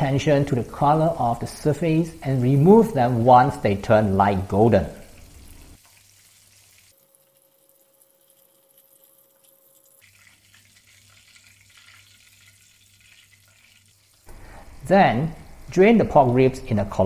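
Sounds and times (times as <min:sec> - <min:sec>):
meat deep-frying in oil: 0:00.0 - 0:17.0.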